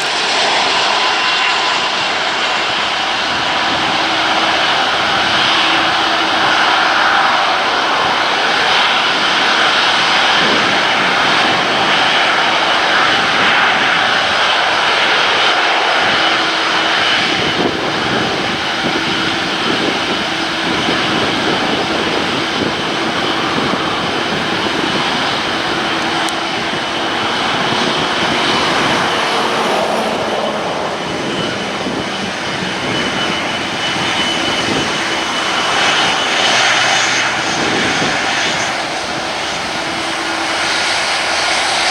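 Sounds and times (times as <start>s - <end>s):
jet engine noise with whine: 0.0s - 41.9s.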